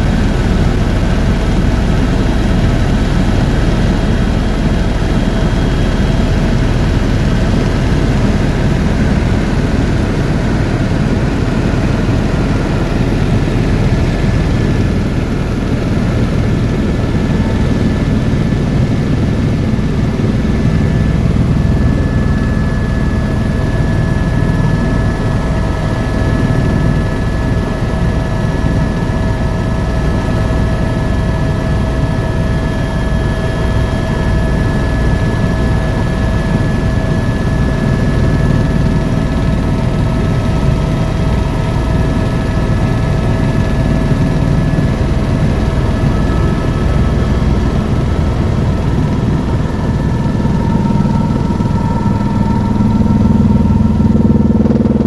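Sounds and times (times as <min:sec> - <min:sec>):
helicopter rotor rumble: 0:00.0 - 0:55.0.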